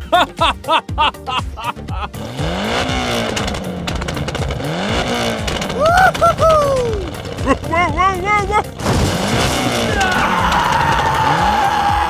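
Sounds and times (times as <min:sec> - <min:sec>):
vehicle engine revving: 0:01.2 - 0:12.0.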